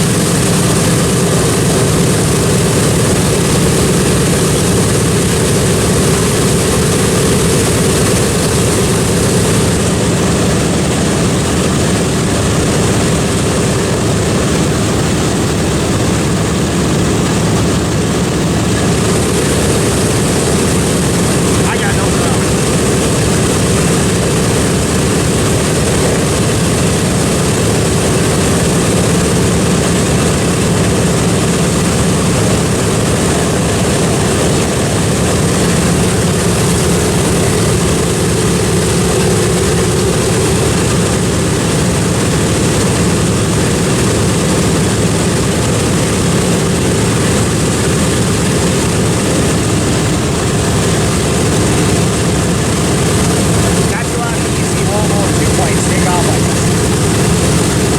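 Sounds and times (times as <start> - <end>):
propeller plane piston engines droning: 0.0 - 57.9.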